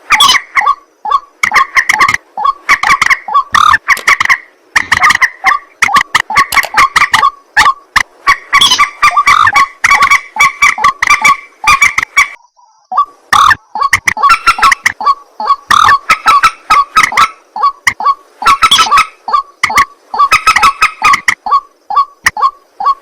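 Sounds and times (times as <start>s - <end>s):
harsh repeated bird calls: 0.0s - 23.0s.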